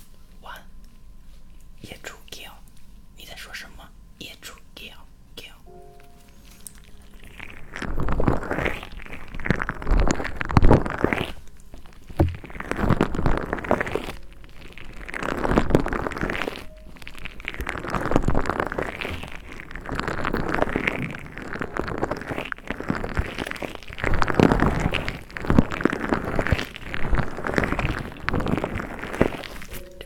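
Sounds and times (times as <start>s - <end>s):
stress ball squeezed crackling: 5.8s - 30.0s.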